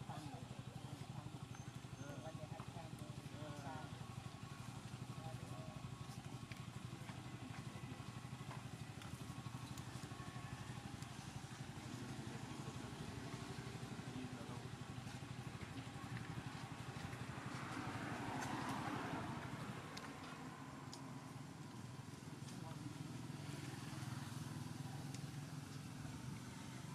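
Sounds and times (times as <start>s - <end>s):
small engine idling: 0.0s - 26.9s.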